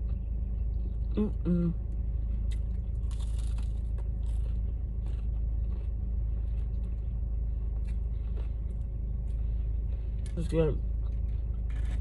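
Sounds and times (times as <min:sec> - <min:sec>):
car idling hum: 0:00.0 - 0:12.0
crunching while eating: 0:00.0 - 0:12.0.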